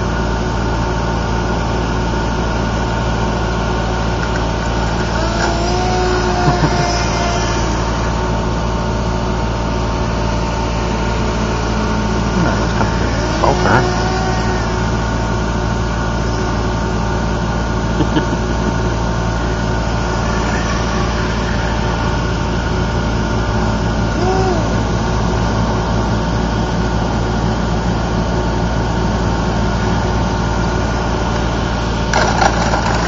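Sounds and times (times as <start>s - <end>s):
constant rumble: 0.0s - 33.0s
low engine-like hum: 0.0s - 33.0s.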